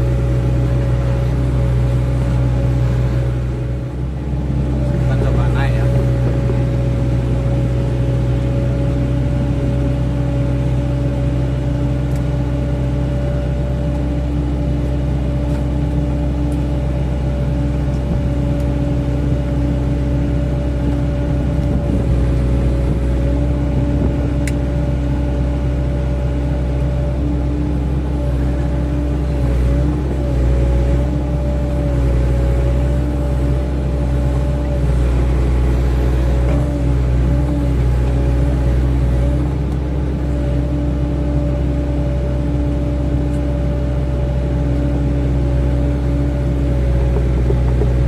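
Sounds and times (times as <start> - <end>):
excavator diesel engine: 0.0 - 48.0.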